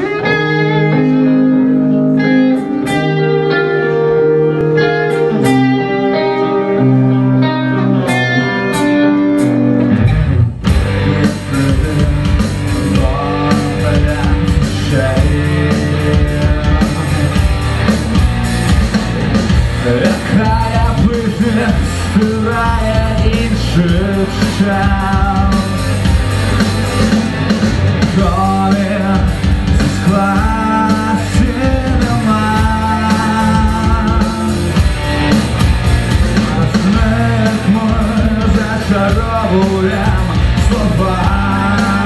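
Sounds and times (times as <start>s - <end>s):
ringing guitar chords: 0.0s - 42.0s
rock band playing: 0.0s - 42.0s.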